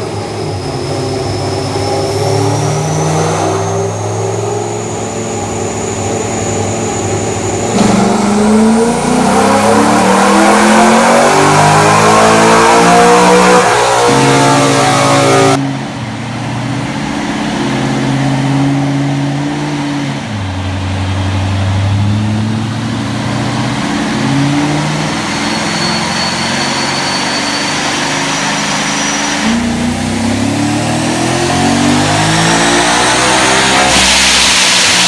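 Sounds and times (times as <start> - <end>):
racing engine revving: 0.0 - 35.0.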